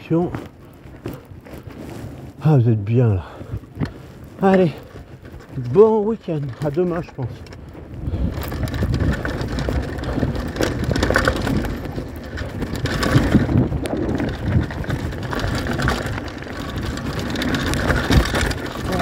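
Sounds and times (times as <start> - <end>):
bike rattling and knocking: 0.0 - 19.0
tyres crunching over gravel: 0.0 - 19.0.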